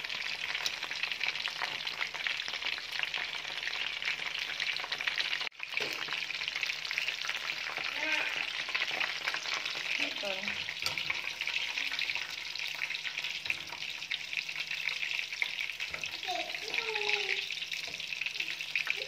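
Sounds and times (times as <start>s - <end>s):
food deep-frying in oil: 0.0s - 19.0s.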